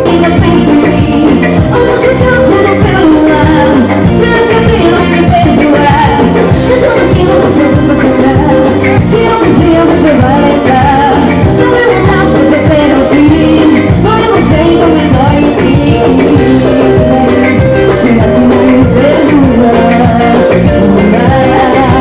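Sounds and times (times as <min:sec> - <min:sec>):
band playing loud music: 0:00.0 - 0:22.0
lead singer singing: 0:00.0 - 0:22.0.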